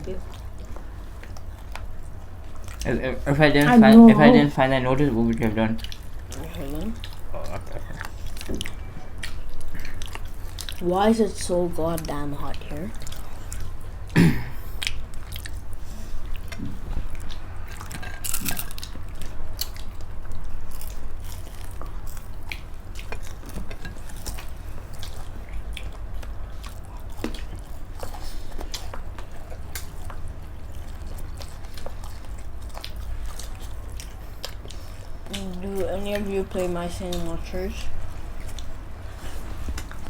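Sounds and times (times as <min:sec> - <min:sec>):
people chewing food: 0:00.0 - 0:40.0
steady low hum: 0:00.0 - 0:40.0.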